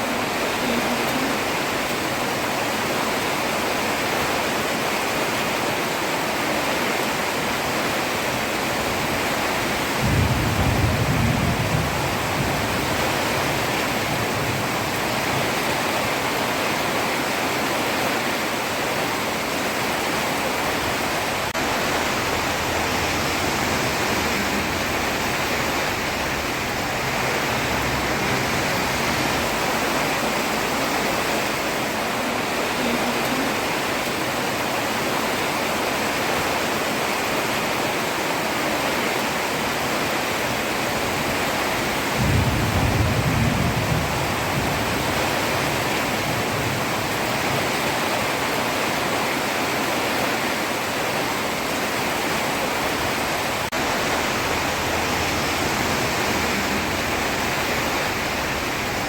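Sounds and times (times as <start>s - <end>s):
heavy rain on a road: 0.0s - 59.0s.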